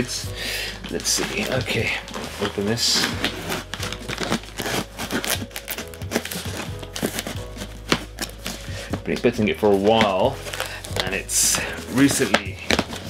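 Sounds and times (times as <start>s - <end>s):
background music: 0.0s - 13.0s
cardboard packaging crinkling: 0.0s - 13.0s.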